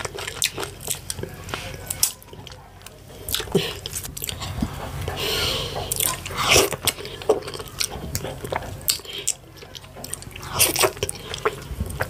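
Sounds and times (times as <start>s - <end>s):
wet chewing mouth clicks and smacks: 0.0s - 12.0s.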